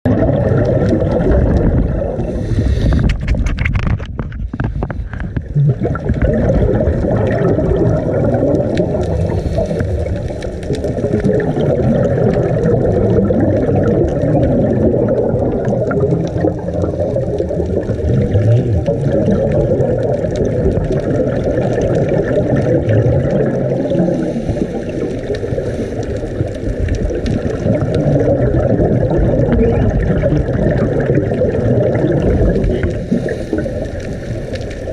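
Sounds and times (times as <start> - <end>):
underwater rumbling and gurgling: 0.0 - 34.9
burst of crackling: 0.1 - 34.9.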